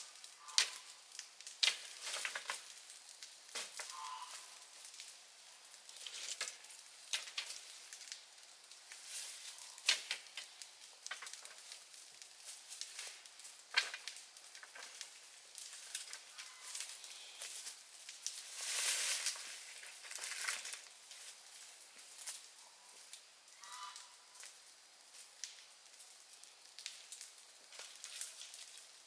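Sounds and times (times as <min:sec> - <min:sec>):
dry twigs crackling and snapping: 0:00.0 - 0:29.0
leaves rustling: 0:00.0 - 0:29.0.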